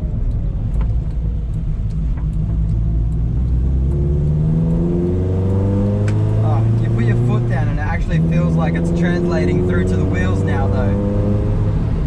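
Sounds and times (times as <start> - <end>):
car engine and exhaust: 0.0 - 12.0.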